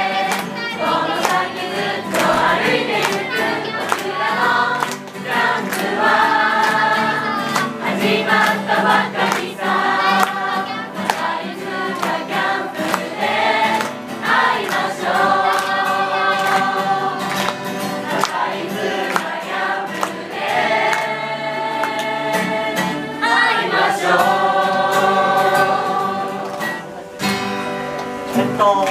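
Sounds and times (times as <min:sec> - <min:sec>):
group singing in unison: 0:00.0 - 0:28.5
acoustic guitar strumming: 0:00.0 - 0:28.9.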